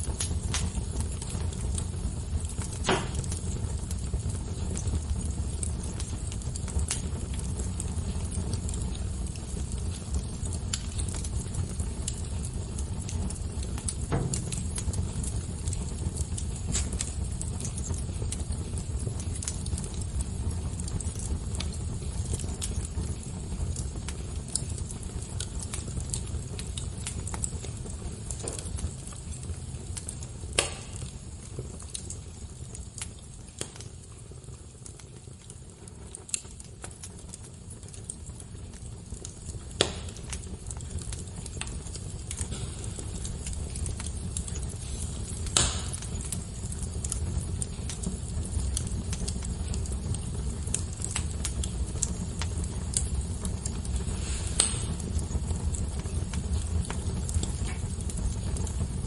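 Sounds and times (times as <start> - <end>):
fire crackling: 0.0 - 59.0
fire pops: 0.0 - 59.0.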